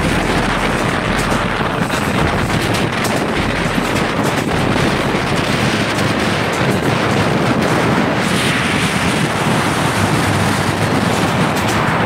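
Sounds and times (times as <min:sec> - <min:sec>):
passenger train running: 0:00.0 - 0:12.0
wind on microphone: 0:00.0 - 0:12.0.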